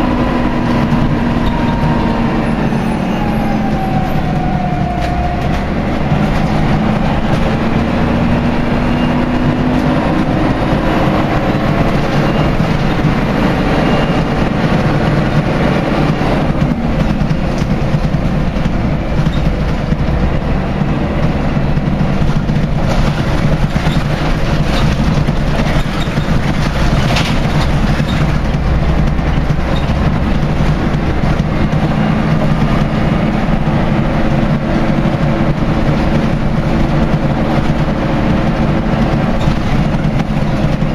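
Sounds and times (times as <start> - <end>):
bus diesel engine running: 0.0 - 40.9
road noise: 0.0 - 40.9.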